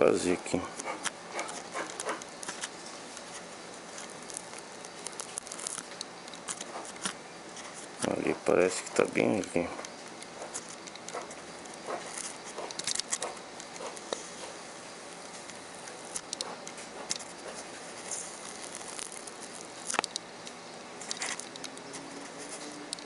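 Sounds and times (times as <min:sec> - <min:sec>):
soldering iron scratching glue: 0:00.2 - 0:22.7.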